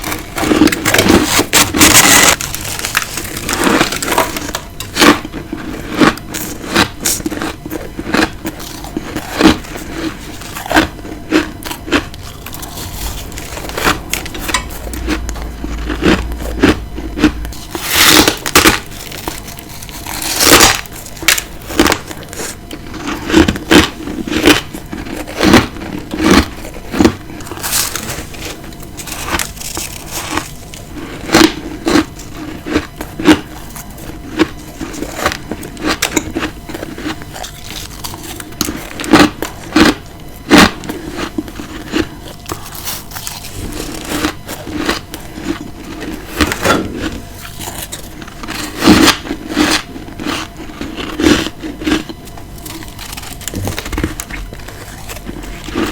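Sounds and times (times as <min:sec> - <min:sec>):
person crunching ice: 0:00.0 - 0:55.9.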